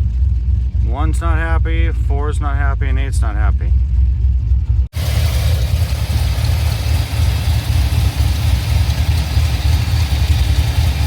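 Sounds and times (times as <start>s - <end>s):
misfiring engine idling: 0.0s - 11.0s.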